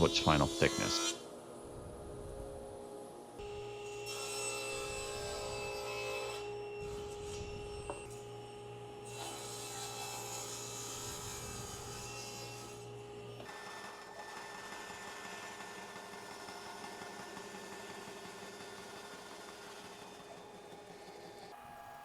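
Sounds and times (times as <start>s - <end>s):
thickness planer whine and hum: 0.0s - 22.0s.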